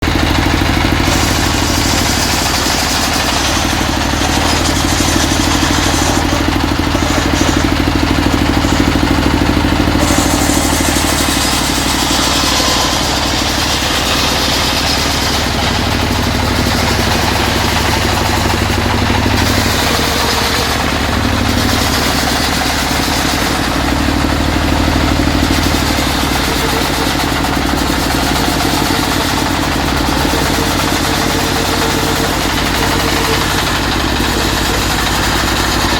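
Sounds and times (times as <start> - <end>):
circular saw cutting wood: 0.0 - 35.9.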